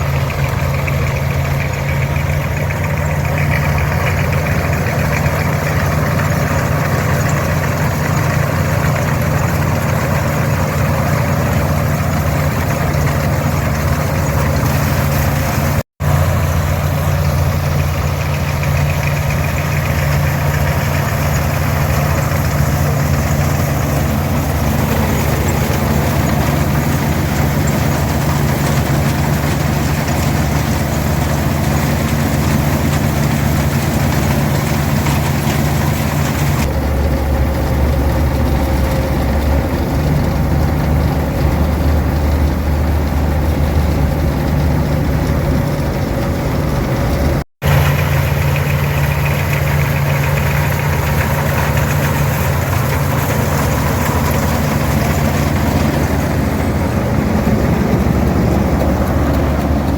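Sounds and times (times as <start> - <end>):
combine machinery noise: 0.0 - 59.9
tractor engine drone: 0.0 - 59.9.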